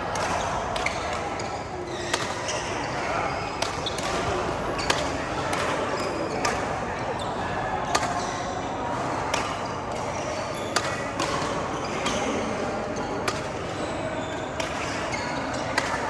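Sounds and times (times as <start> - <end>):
rackets striking shuttlecock: 0.0 - 7.1, 7.9 - 16.0
murmur of voices: 0.0 - 16.0.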